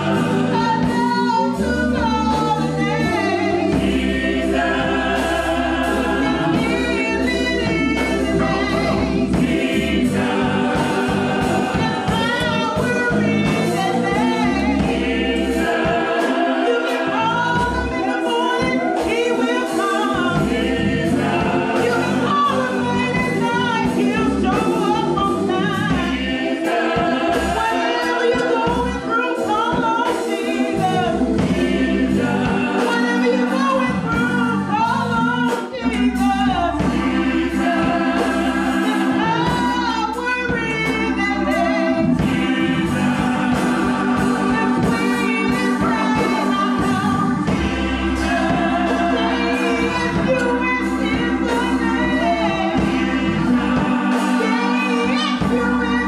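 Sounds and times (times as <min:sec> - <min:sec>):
gospel choir singing: 0:00.0 - 0:56.0
steady bass: 0:00.0 - 0:56.0
percussive strikes beat: 0:03.4 - 0:34.5, 0:36.7 - 0:56.0.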